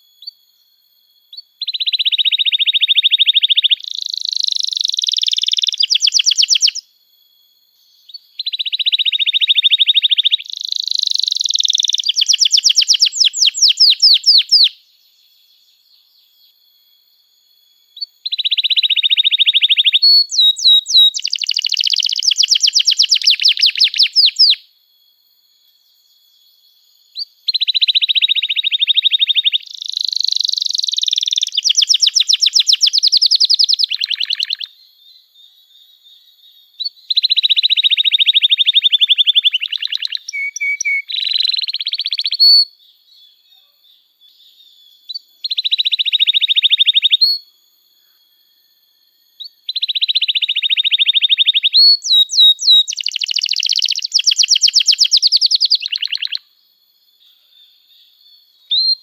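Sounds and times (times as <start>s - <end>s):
canary singing trills: 1.3s - 6.8s, 8.0s - 16.6s, 17.9s - 24.7s, 26.9s - 48.2s, 49.4s - 59.0s.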